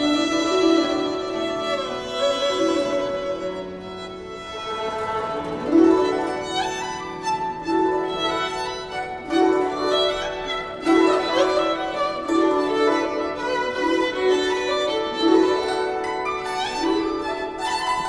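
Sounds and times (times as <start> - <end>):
instrumental music with violin: 0.0 - 18.0.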